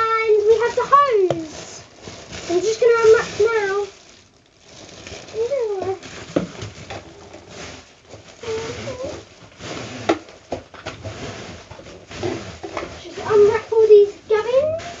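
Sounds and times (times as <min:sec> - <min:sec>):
plastic wrapping rustling and crinkling: 0:00.0 - 0:15.0.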